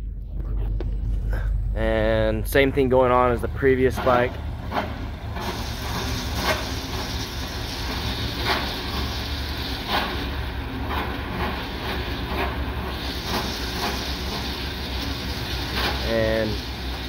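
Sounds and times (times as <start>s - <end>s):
exercise bike fan whooshing: 0.0s - 17.0s.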